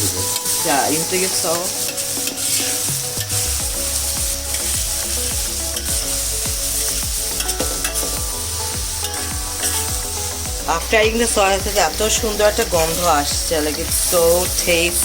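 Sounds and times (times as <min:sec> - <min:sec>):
food sizzling in a pan: 0:00.0 - 0:15.0
spatula scraping a pan: 0:00.0 - 0:15.0.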